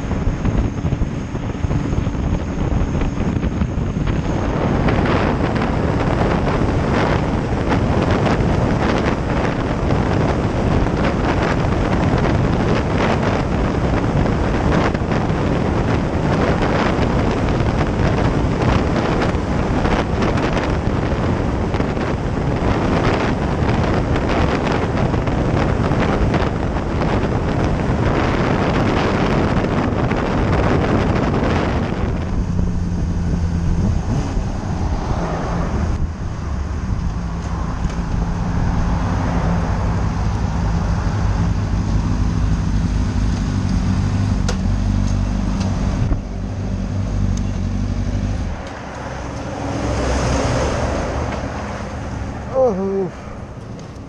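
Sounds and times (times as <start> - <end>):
motorcycle engine at low revs: 0.0 - 35.0, 35.6 - 49.5
wind rushing over microphone: 0.0 - 54.0.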